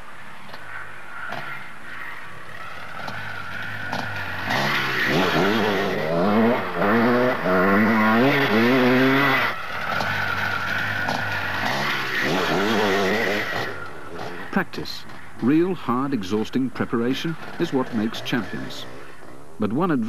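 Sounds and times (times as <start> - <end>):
motorcycle engine revving: 0.3 - 19.8.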